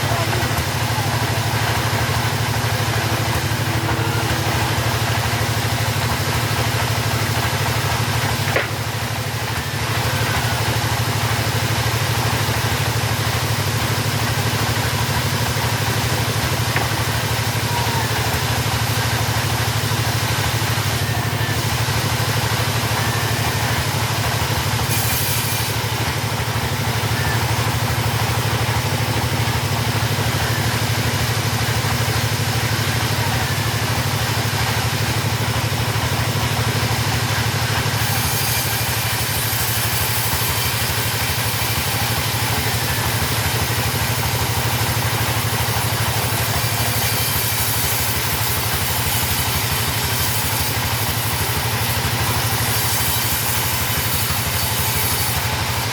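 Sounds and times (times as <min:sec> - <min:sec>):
saw engine running: 0:00.0 - 0:55.9.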